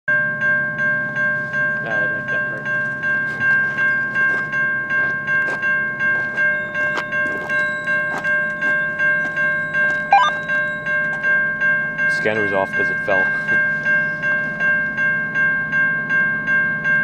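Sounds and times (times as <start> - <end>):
railroad crossing bell ringing: 0.1 - 17.0.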